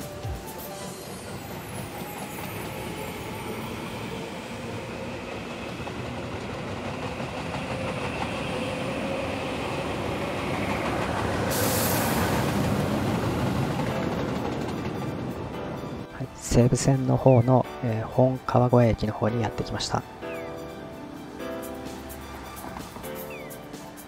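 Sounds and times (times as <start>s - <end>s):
electric train rumble: 0.0s - 17.3s, 20.0s - 24.0s.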